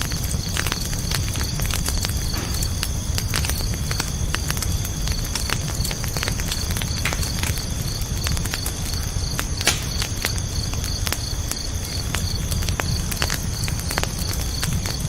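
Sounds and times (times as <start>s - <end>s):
campfire crackling and popping: 0.0s - 15.0s
crickets chirping: 0.0s - 15.0s.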